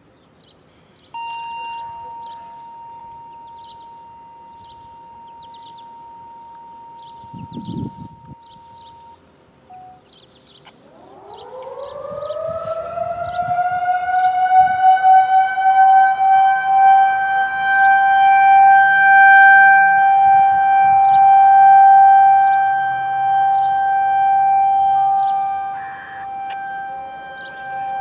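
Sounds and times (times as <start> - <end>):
outdoor warning siren: 1.2 - 10.0, 10.7 - 28.0.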